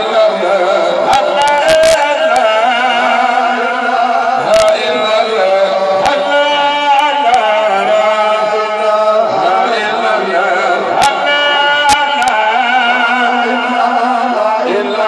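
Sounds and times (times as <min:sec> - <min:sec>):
men chanting over loudspeakers: 0:00.0 - 0:15.0.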